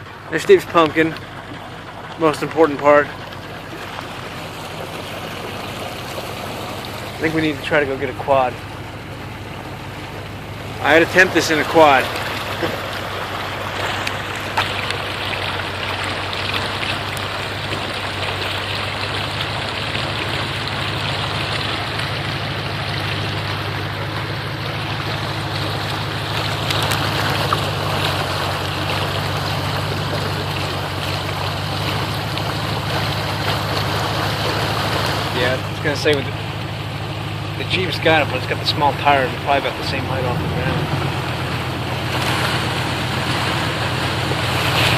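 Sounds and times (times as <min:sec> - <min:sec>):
floodwater rushing and sloshing: 0:00.0 - 0:44.9
vehicle engine humming: 0:00.0 - 0:44.9.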